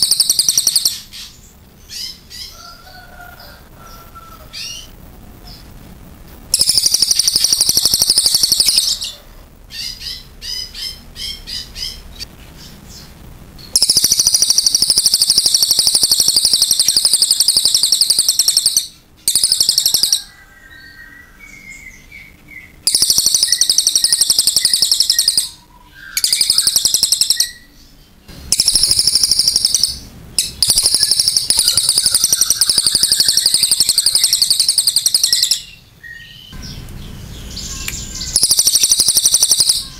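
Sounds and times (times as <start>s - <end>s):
jay singing rattling trills: 0.0s - 2.7s, 6.5s - 39.9s.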